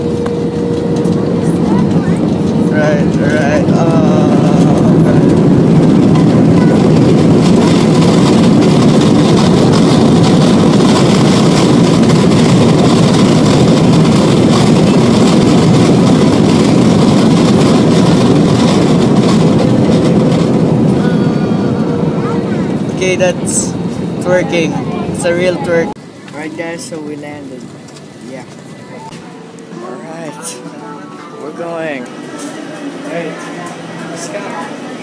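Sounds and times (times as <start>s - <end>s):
jet engines and airflow rumbling: 0.0s - 35.0s.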